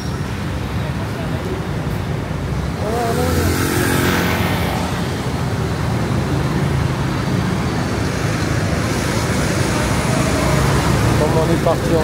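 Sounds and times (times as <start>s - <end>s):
dense city street traffic: 0.0s - 12.0s.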